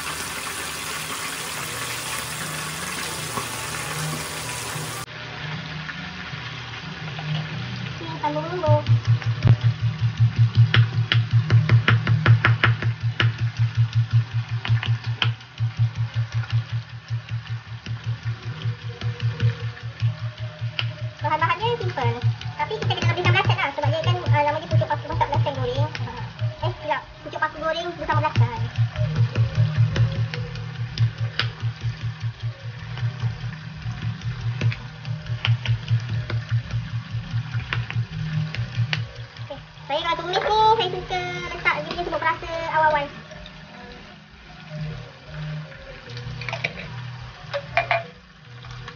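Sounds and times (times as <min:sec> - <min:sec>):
low pulsing hum: 0:00.0 - 0:48.9.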